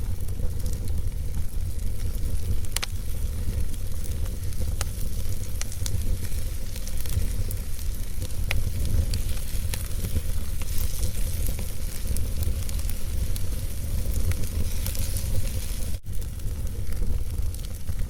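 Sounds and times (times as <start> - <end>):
fire crackles and pops: 0.0 - 18.0
fire rumbling and hissing: 0.0 - 18.0.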